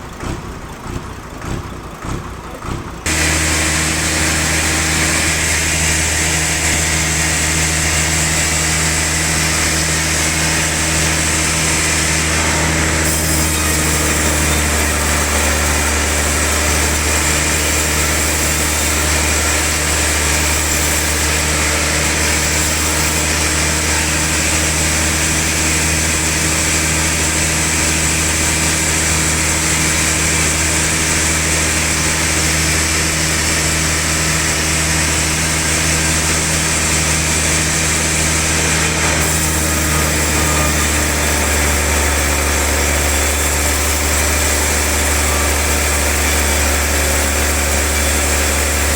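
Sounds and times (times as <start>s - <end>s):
log saw humming and hissing: 3.0s - 48.9s.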